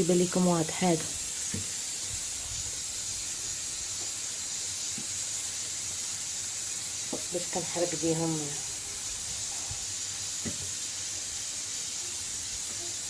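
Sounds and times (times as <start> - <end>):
gas burner flame hissing: 0.0 - 13.0.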